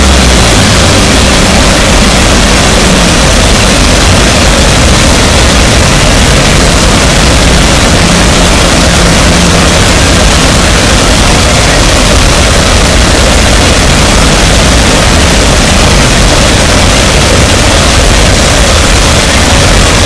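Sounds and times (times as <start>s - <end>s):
harsh noise wall music: 0.0s - 20.0s
shifting low rumble: 0.0s - 20.0s.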